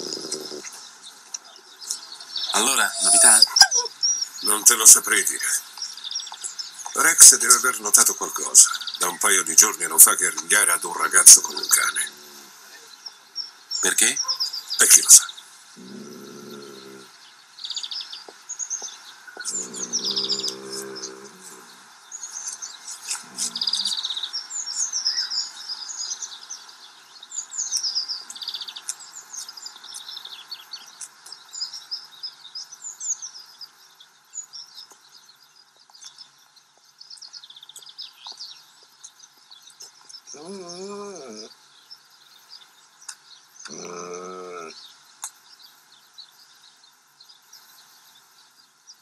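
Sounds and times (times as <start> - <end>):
songbirds chirping and singing: 0.0 - 49.0.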